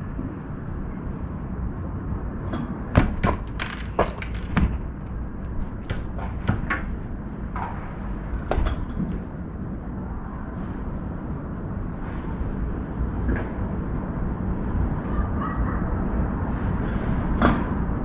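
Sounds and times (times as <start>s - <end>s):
low rumble of wind: 0.0s - 18.0s.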